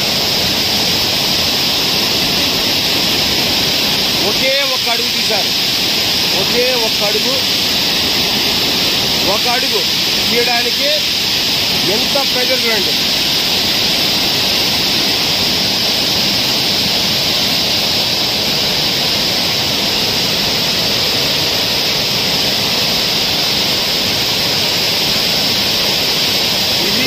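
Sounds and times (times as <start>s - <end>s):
water rushing under gate: 0.0s - 27.0s.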